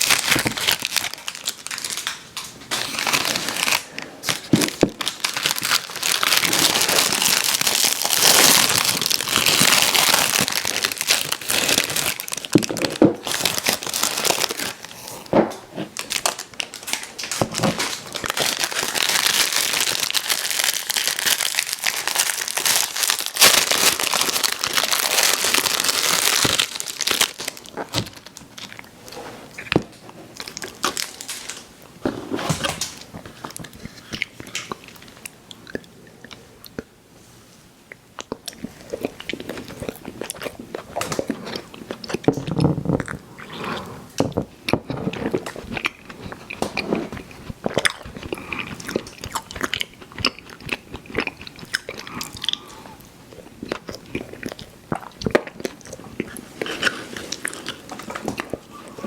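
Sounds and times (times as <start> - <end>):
chewing candy: 4.7 - 15.3, 16.0 - 29.0, 33.1 - 36.9, 37.9 - 59.0.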